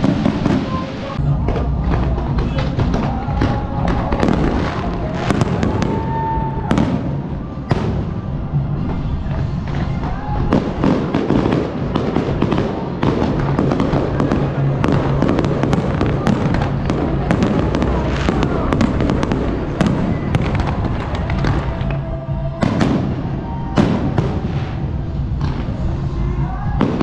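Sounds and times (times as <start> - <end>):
fireworks bursting and crackling: 0.0 - 27.0
music: 0.0 - 27.0.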